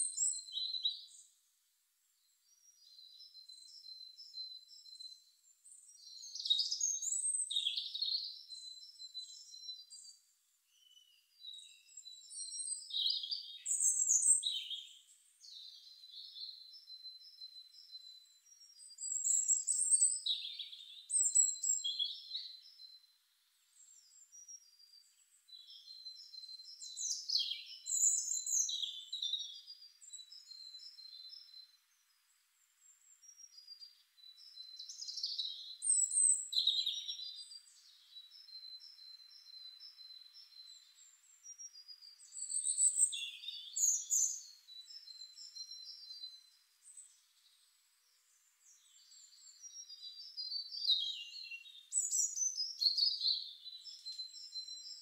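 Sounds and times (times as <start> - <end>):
birds singing: 0.0 - 1.4, 2.2 - 55.0.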